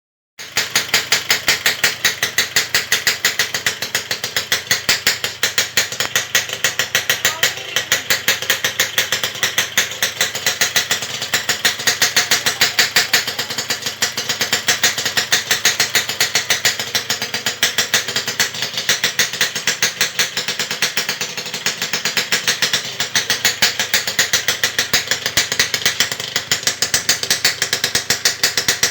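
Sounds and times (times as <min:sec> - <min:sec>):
engine idling: 0:00.4 - 0:28.9.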